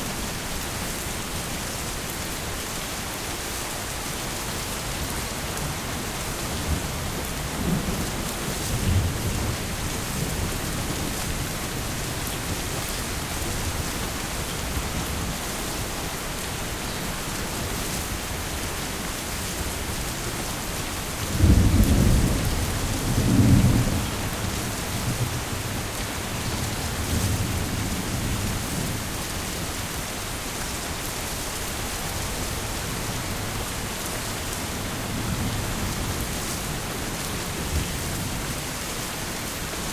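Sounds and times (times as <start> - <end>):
heavy rain falling: 0.0 - 39.9
thunder rumbling: 3.8 - 39.7.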